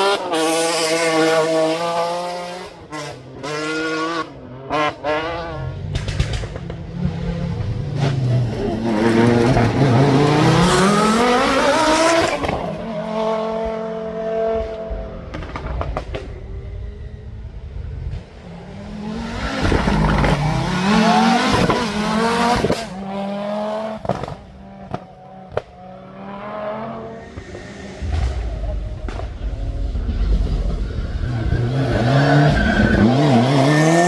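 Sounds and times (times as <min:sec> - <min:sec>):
rally car engine revving: 0:00.0 - 0:17.2, 0:18.1 - 0:34.0.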